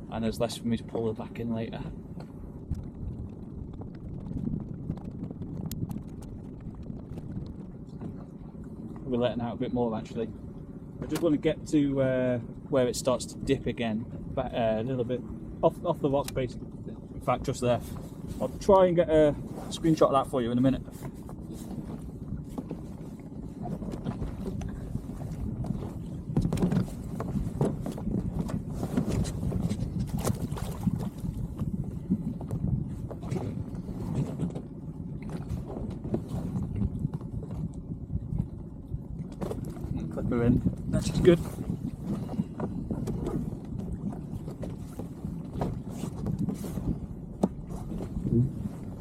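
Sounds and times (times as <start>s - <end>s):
knocks and rubs on boat: 0.0s - 10.2s, 16.1s - 49.0s
steady low rumble: 0.0s - 49.0s
water lapping against hull: 0.0s - 49.0s.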